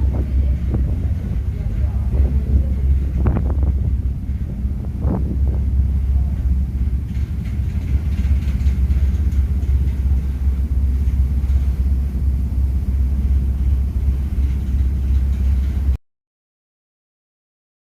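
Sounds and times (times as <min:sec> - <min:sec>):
ferry engines rumbling: 0:00.0 - 0:16.0.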